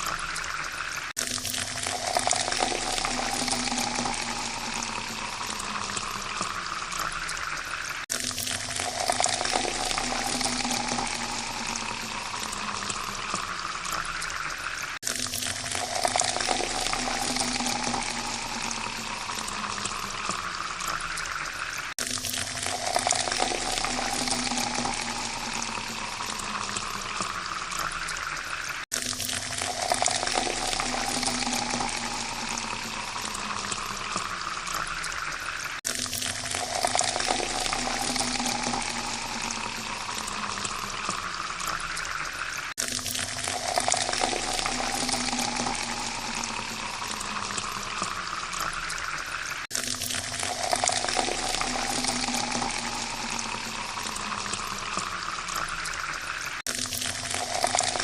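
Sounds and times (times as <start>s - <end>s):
water pouring into a glass: 0.0s - 58.0s.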